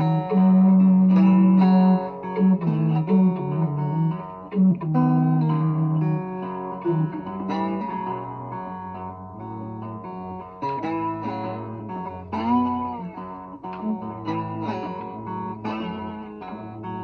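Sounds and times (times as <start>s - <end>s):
long held low notes: 0.0s - 9.9s, 11.0s - 17.0s
guitar playing plucked notes: 0.0s - 17.0s.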